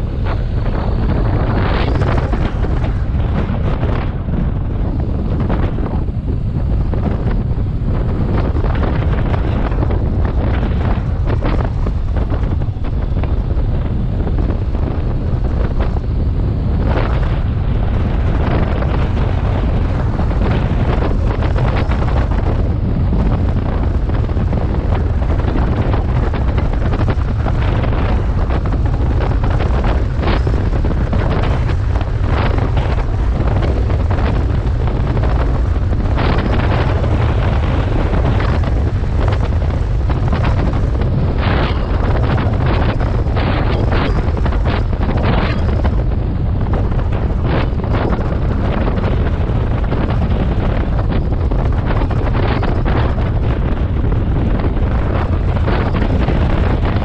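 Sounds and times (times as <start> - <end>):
wind gust crackles: 0.0 - 57.0
wind rumble on microphone: 0.0 - 57.0.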